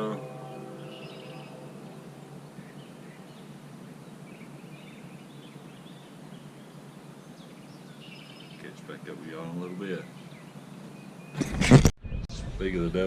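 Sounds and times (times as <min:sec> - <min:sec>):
faint bird chirps: 0:00.0 - 0:11.4
outdoor background hiss: 0:00.0 - 0:11.8.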